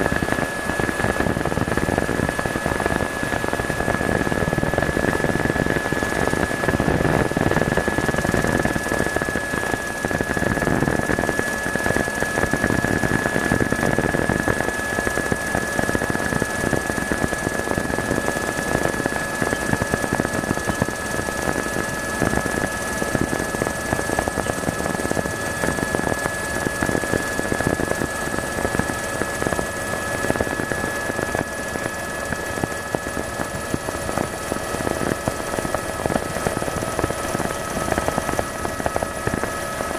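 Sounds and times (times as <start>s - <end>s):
helicopter engine whine: 0.0s - 39.9s
helicopter rotor chop: 0.0s - 39.9s.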